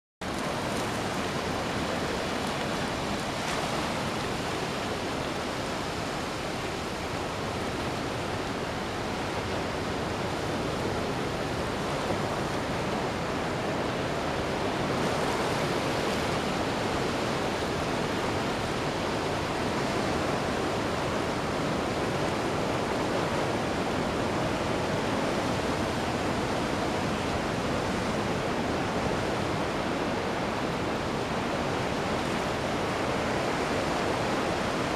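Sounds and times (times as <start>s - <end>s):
waves breaking on a beach: 0.2s - 34.9s.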